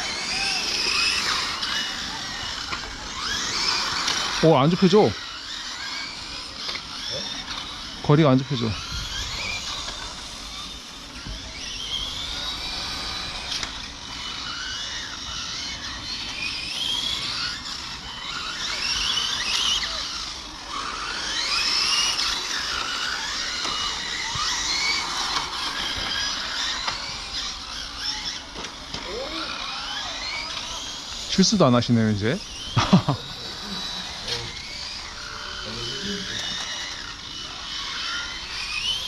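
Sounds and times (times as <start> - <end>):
electric rc car motors whining: 0.0 - 39.0.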